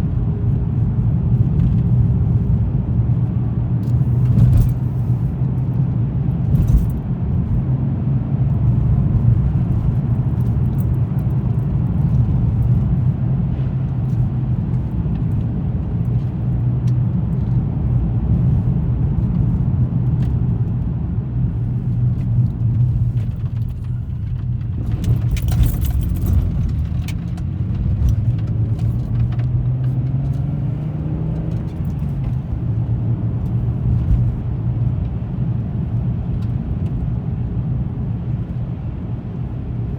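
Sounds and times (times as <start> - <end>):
car engine hum: 0.0 - 39.9
road rumble: 0.0 - 39.9.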